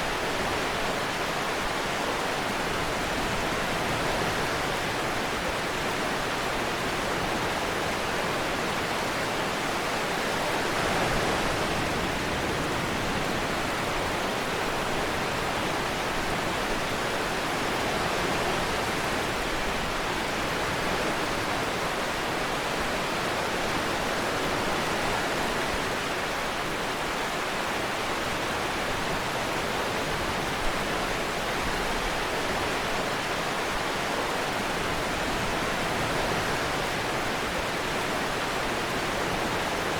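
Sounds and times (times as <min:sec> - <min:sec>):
ocean surf: 0:00.0 - 0:39.9
steady rainfall: 0:00.0 - 0:39.9.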